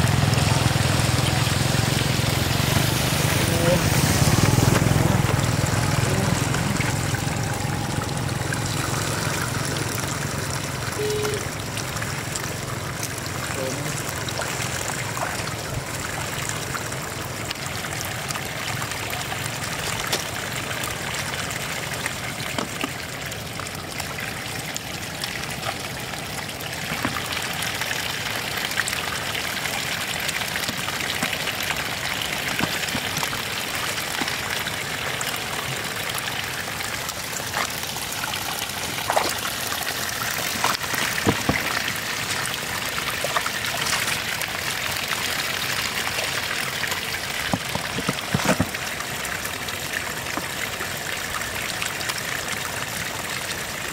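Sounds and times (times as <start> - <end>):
floodwater running and trickling: 0.0 - 53.9
water splashes: 0.0 - 53.9.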